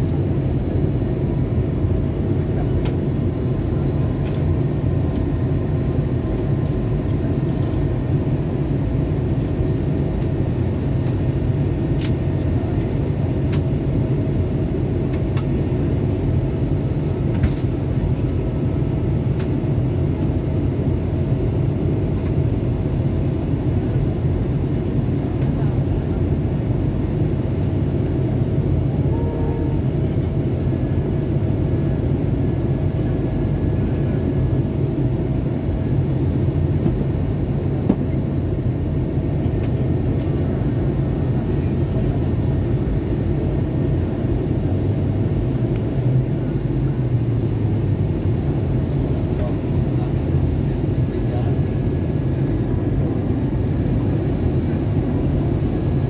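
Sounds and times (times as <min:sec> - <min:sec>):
faint steady whine: 0:00.0 - 0:56.0
jet engine and airflow rumble: 0:00.0 - 0:56.0.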